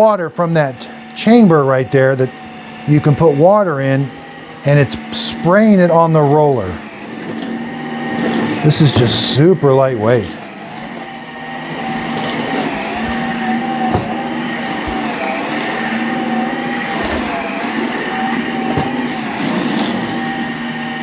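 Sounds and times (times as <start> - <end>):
motor whine: 0.0 - 21.0.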